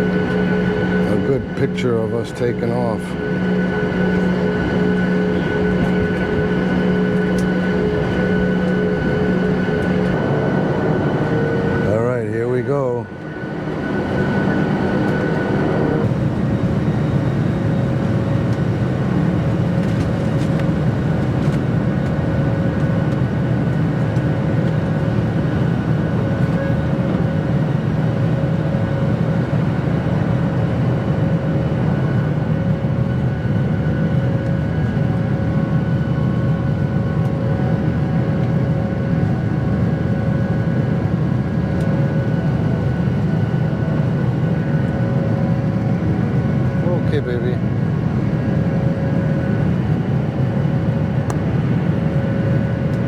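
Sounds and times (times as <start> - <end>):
airliner engines rumbling: 0.0 - 53.0.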